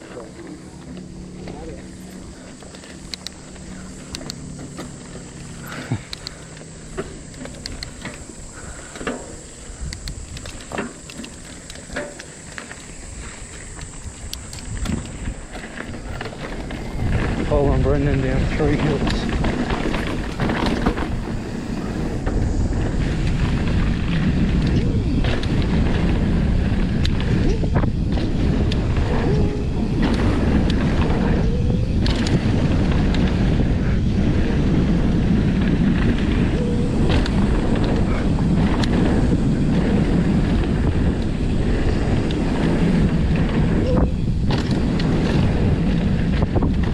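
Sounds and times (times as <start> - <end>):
bike knocking and rattling: 0.0 - 46.9
wind buffeting microphone: 0.0 - 46.9.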